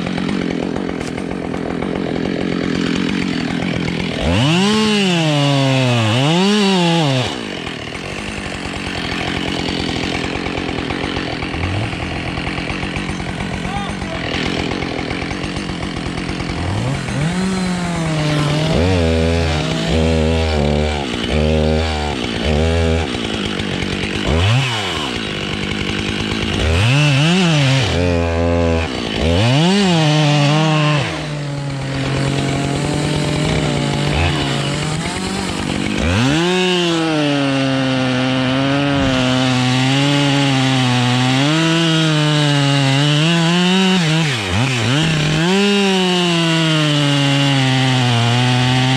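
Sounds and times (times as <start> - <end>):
chainsaw revving and cutting wood: 0.0 - 48.9.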